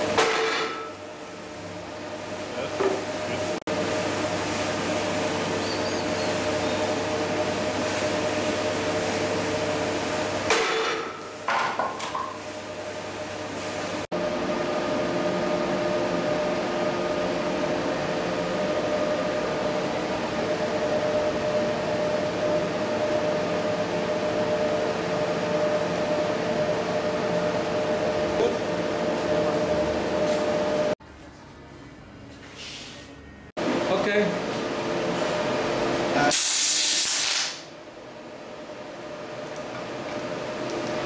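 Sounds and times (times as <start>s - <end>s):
workshop machinery humming: 0.0s - 41.0s.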